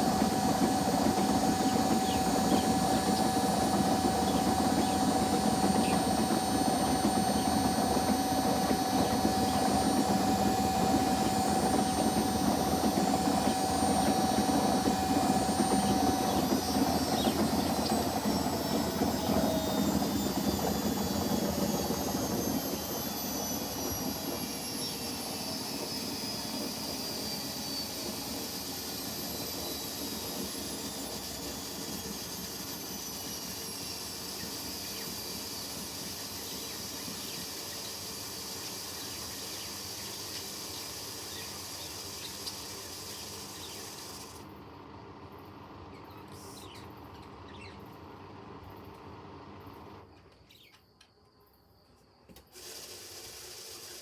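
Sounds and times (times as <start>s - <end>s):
washing machines spinning: 0.0s - 50.1s, 52.6s - 54.0s.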